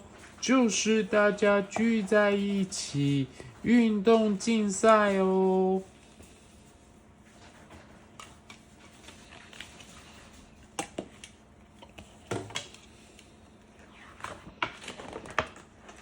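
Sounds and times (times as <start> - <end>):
faint background hum: 0.0 - 16.0.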